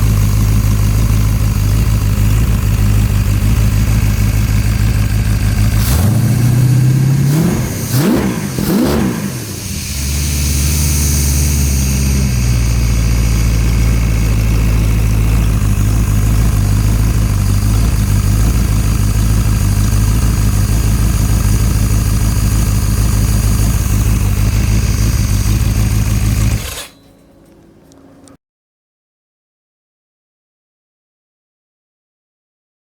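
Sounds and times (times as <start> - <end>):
car engine revving and idling: 0.0 - 28.4.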